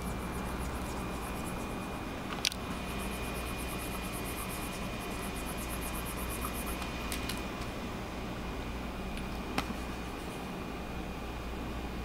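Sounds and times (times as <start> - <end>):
cooling fan hissing: 0.0 - 12.0.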